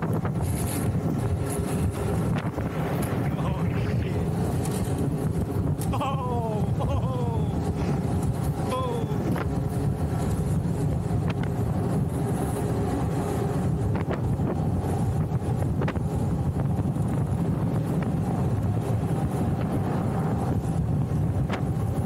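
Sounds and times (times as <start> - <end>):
wheels rolling on asphalt: 0.0 - 22.0
wind rushing over microphone: 0.0 - 22.0.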